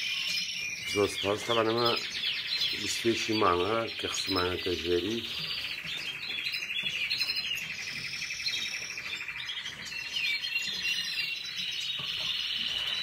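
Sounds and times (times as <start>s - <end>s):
canaries singing trills: 0.0s - 13.0s.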